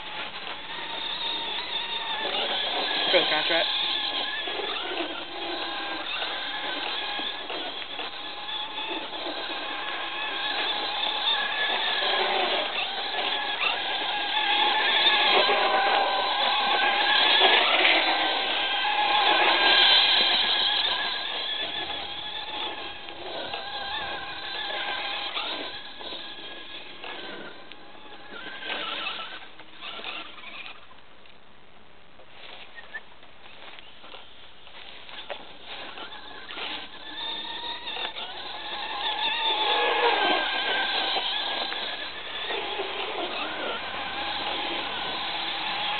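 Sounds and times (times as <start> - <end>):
rc truck motor whining: 0.0 - 31.0, 32.4 - 45.9.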